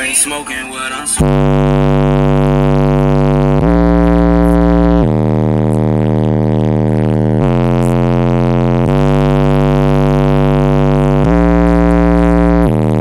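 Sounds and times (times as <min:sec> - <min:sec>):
bass-heavy rap through subwoofers: 0:00.0 - 0:13.0.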